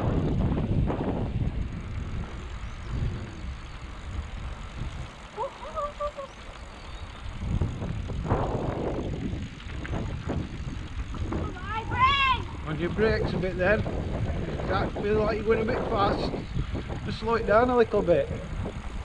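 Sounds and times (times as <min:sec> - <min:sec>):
bicycle tyre rumble: 0:00.0 - 0:19.0
wind buffeting microphone: 0:00.0 - 0:19.0.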